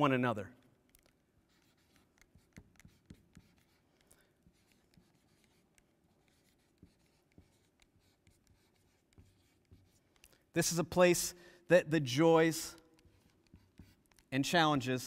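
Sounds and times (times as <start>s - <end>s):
marker writing on a board: 0.8s - 11.2s, 12.0s - 15.0s.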